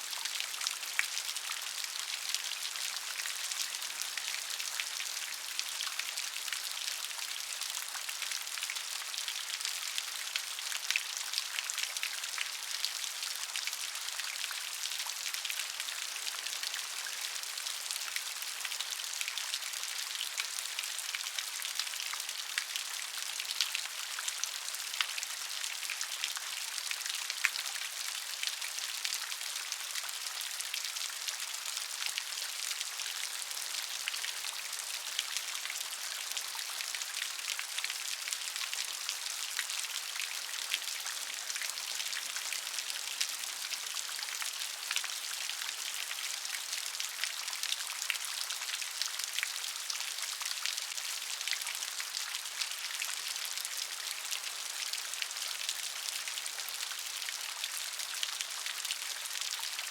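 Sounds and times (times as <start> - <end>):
gentle rain: 0.0 - 59.9.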